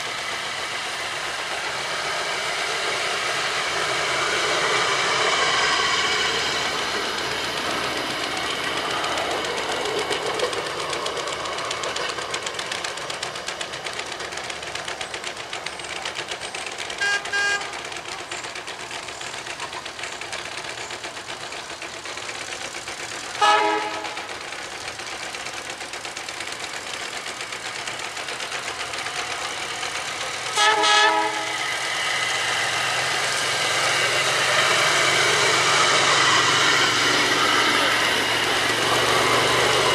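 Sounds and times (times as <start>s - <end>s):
rail speeder engine passing: 0.0s - 39.9s.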